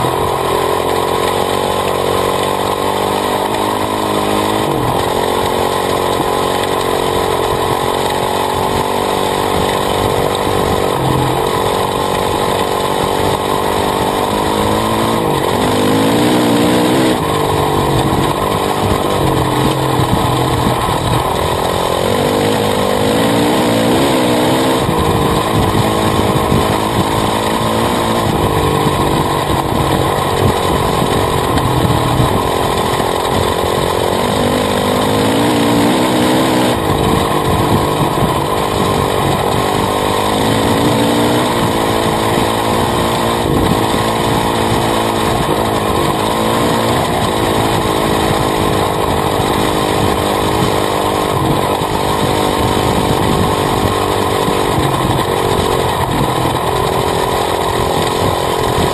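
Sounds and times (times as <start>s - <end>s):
dirt bike engine revving: 0.0s - 58.9s
wind and tyre noise: 0.0s - 58.9s.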